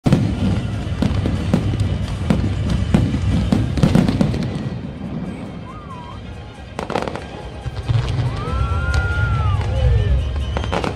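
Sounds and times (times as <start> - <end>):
fireworks bangs: 0.0 - 10.9.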